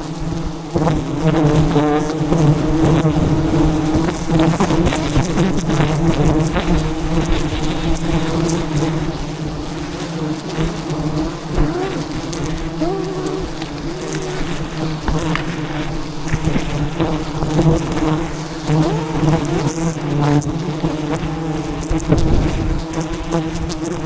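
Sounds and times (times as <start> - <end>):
swarm of bees buzzing: 0.0 - 24.0
single bees whining past: 0.6 - 24.0.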